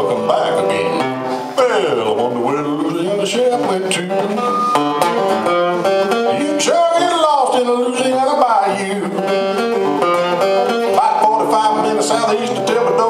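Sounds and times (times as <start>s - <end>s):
acoustic guitar picking: 0.0s - 13.0s
person singing: 0.0s - 13.0s.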